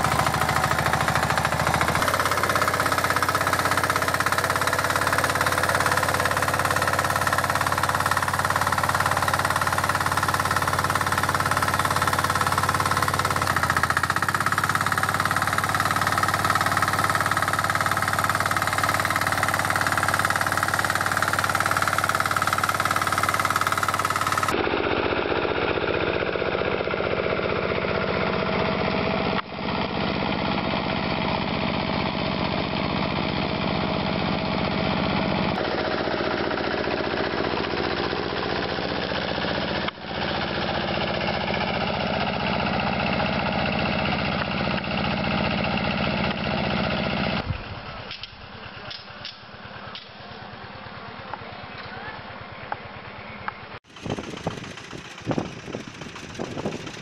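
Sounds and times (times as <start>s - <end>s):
small engines tilling soil: 0.0s - 57.0s.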